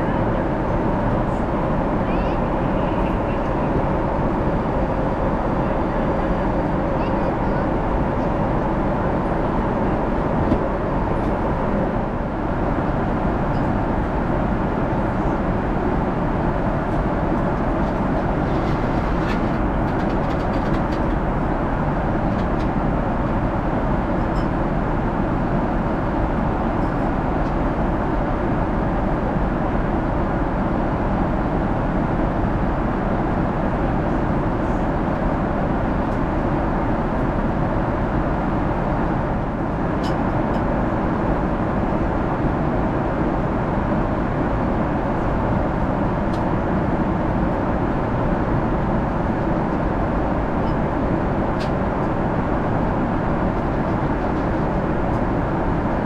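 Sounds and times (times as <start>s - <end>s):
airplane cabin engine and airflow noise: 0.0s - 56.0s.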